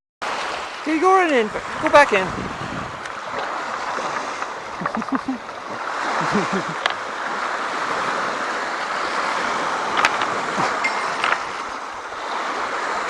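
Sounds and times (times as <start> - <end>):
small waves lapping on shore: 0.2 - 13.0.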